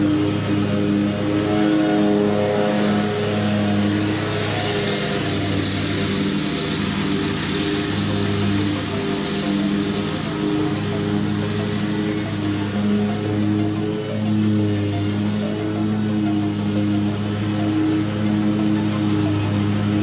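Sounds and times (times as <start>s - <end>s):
background music with low notes: 0.0s - 20.0s.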